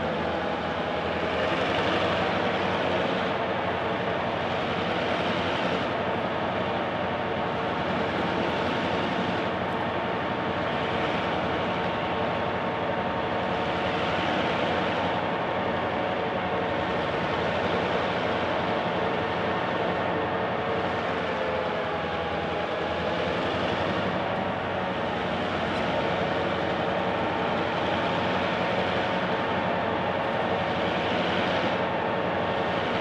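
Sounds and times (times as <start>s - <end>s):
heavy diesel locomotive engine drone: 0.0s - 33.0s.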